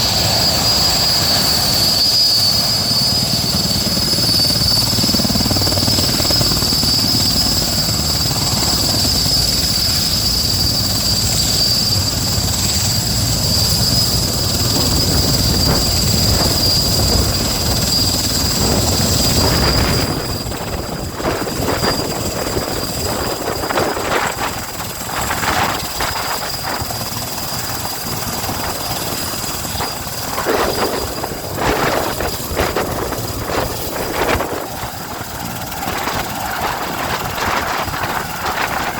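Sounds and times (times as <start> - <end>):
helicopter engine whine: 0.0 - 38.9
helicopter rotor rumble: 0.0 - 38.9.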